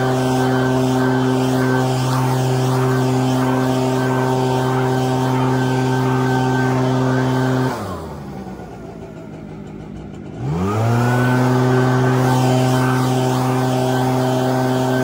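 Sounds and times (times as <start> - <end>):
leaf blower idling and revving: 0.0 - 15.0.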